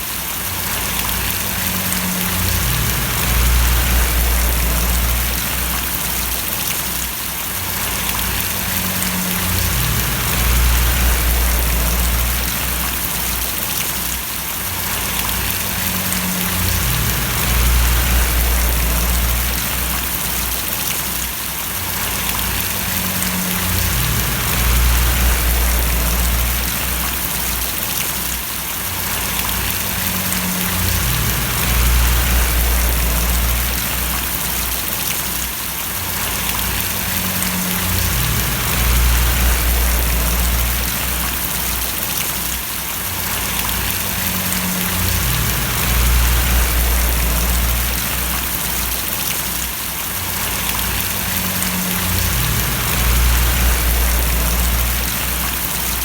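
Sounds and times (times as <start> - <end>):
steady rain splashing: 0.0 - 56.0
low rumble: 0.7 - 6.7, 7.8 - 13.7, 14.9 - 20.9, 21.9 - 27.8, 29.1 - 35.1, 36.2 - 42.1, 43.3 - 49.3, 50.4 - 56.0.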